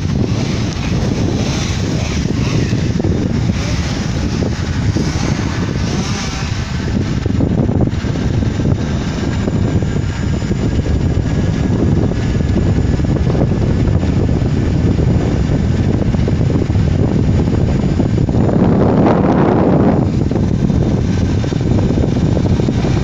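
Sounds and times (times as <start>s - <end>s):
bicycle tyre noise: 0.0s - 23.0s
electric motor whine: 0.0s - 23.0s
wind buffeting microphone: 0.0s - 23.0s.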